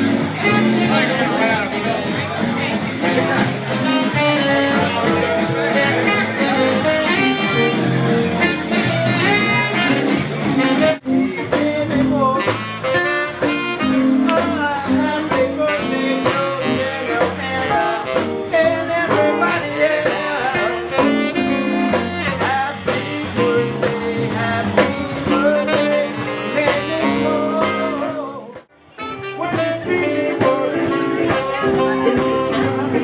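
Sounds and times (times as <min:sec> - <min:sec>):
jazz-blues band music: 0:00.0 - 0:33.0.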